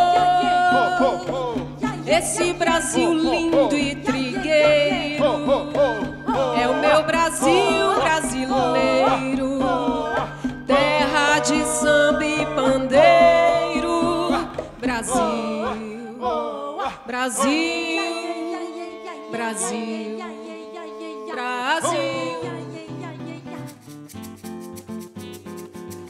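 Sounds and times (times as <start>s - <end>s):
percussion: 0.0s - 16.1s, 16.8s - 26.0s
women singing in harmony: 0.0s - 23.7s.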